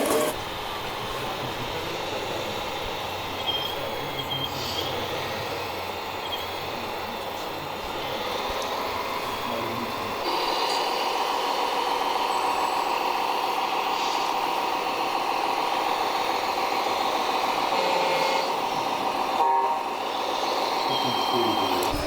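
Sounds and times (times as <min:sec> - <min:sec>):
small electric motors whining: 0:00.0 - 0:00.8, 0:04.3 - 0:22.0.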